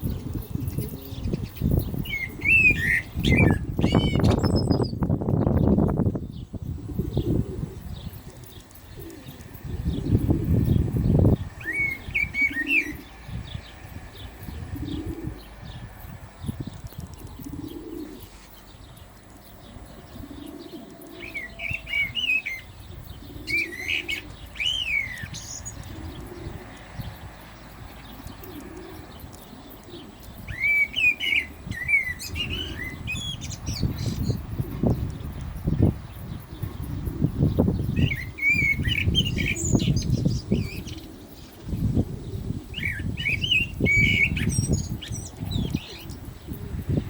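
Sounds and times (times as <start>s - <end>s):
blackbird singing: 0.0s - 47.0s.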